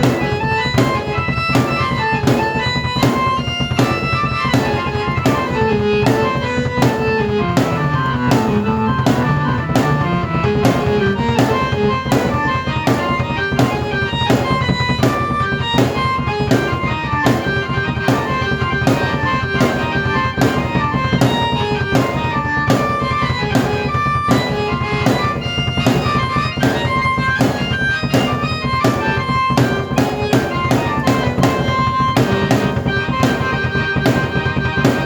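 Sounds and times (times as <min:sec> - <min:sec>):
drum beat: 0:00.0 - 0:35.0
keyboard melody: 0:00.0 - 0:35.0.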